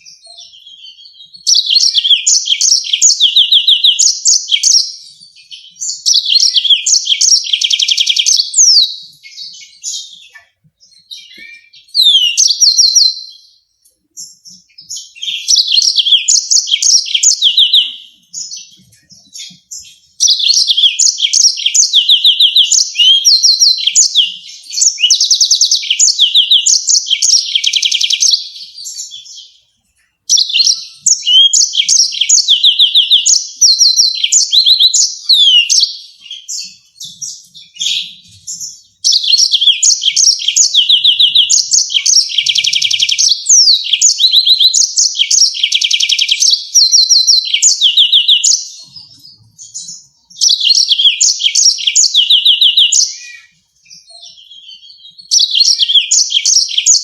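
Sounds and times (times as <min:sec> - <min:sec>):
canary singing high trills: 0:00.0 - 0:57.0.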